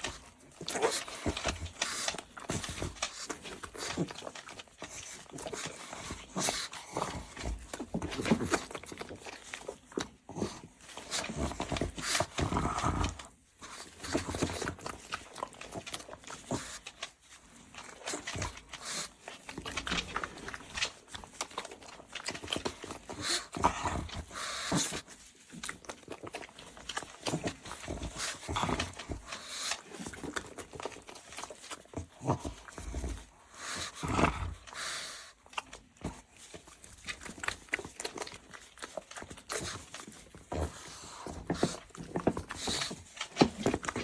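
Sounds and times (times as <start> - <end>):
dog snorting noises: 0.0 - 44.0.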